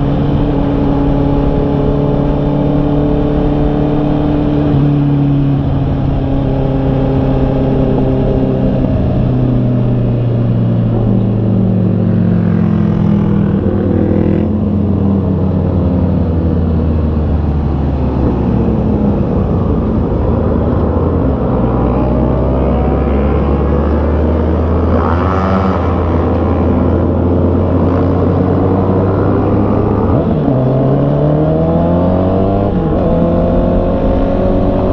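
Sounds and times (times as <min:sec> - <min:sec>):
wind noise: 0:00.0 - 0:34.9.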